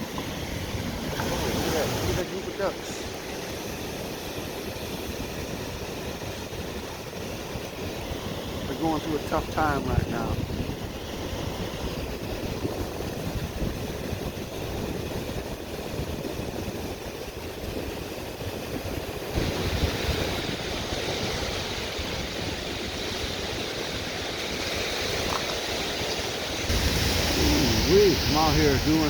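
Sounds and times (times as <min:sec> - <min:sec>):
waves washing onto rocky shore: 0:00.0 - 0:29.0
wind buffeting microphone: 0:00.0 - 0:29.0.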